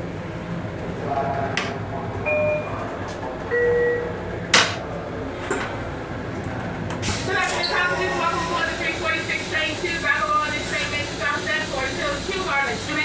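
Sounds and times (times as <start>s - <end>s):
electric railcar rumbling: 0.0s - 13.0s.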